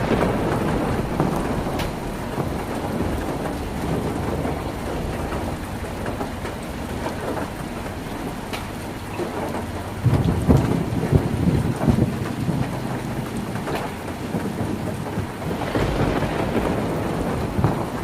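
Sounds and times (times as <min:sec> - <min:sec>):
heavy rain on a tin roof: 0:00.0 - 0:18.0.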